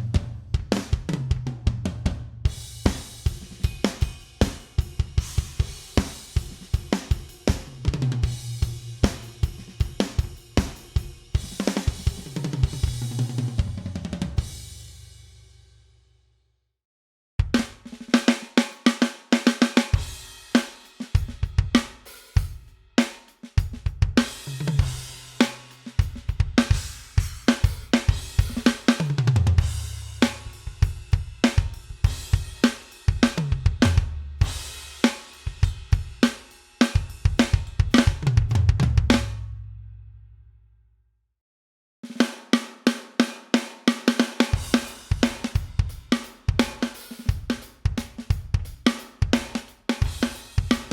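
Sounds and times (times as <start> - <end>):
drum kit playing grooves: 0.0 - 15.0, 17.4 - 39.5, 42.2 - 50.9.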